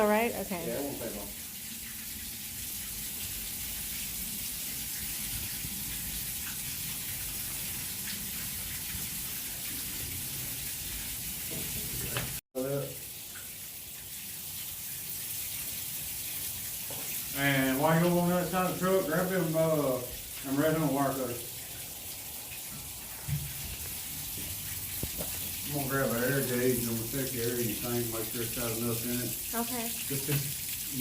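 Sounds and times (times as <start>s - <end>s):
water running out: 0.0s - 31.0s.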